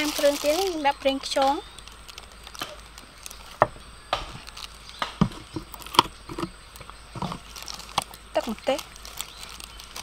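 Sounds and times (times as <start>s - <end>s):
faint rustling: 0.0s - 10.0s.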